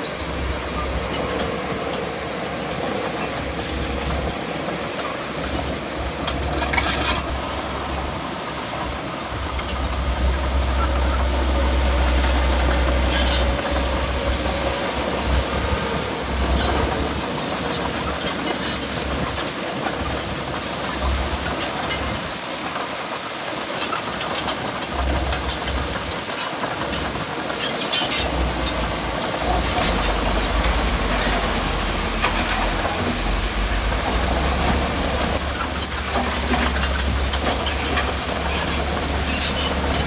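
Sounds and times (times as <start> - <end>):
heavy machinery rumble: 0.0 - 40.0.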